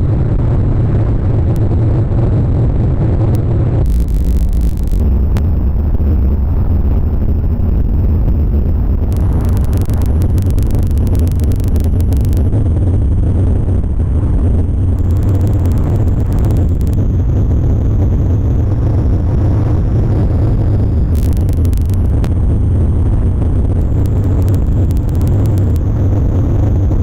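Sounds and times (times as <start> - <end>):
loud low rumble: 0.0 - 27.0.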